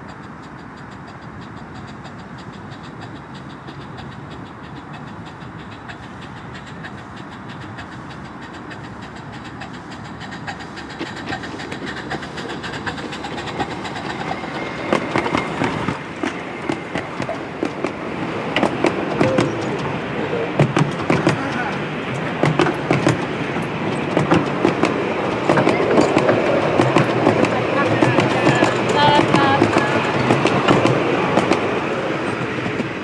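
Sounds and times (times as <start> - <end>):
model train running: 0.0 - 33.0
wheels clicking on rails: 0.0 - 33.0.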